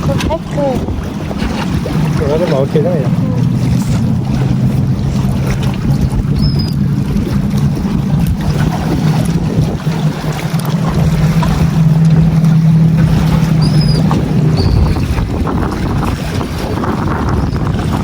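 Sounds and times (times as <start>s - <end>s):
wind noise on microphone: 0.0s - 2.4s, 3.2s - 18.0s
boat engine droning: 0.0s - 18.0s.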